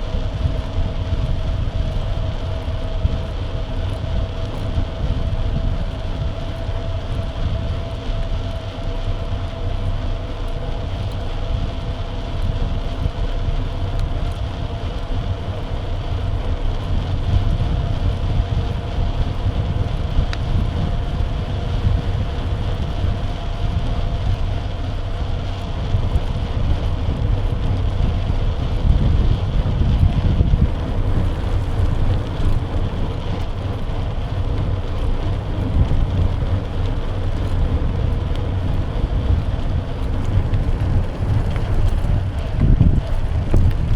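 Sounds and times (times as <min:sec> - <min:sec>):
faint hum of bike ride: 0:00.0 - 0:43.9
wind buffeting microphone: 0:00.0 - 0:43.9.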